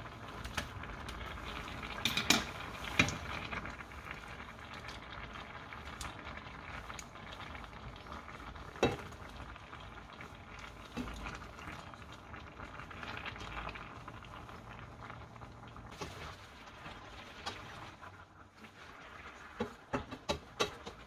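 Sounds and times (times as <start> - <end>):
sauce simmering and bubbling: 0.0 - 21.0.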